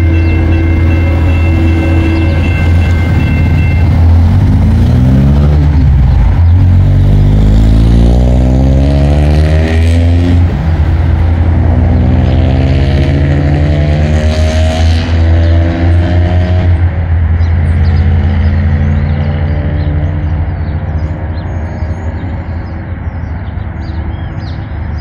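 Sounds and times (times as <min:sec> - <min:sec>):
engine revving: 0:01.2 - 0:21.6.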